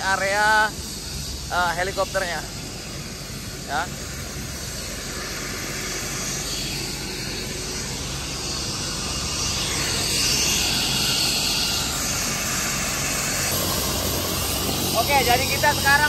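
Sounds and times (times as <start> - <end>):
helicopter rotors rushing: 0.0 - 16.0.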